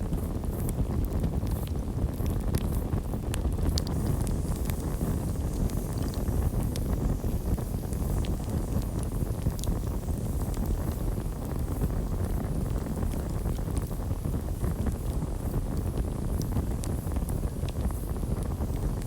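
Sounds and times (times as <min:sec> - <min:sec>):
low roar of flames: 0:00.0 - 0:19.0
wood crackling and popping: 0:00.0 - 0:19.0.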